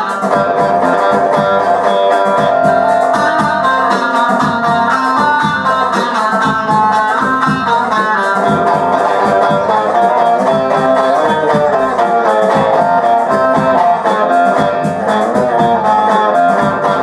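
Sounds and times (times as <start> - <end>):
long-necked lute melody: 0.0 - 17.0.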